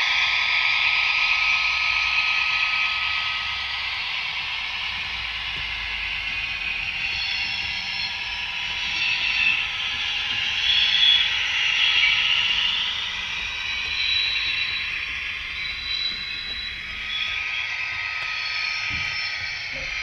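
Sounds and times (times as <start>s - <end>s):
model train wheels rolling: 0.6s - 20.0s
faint high squealing: 1.3s - 20.0s.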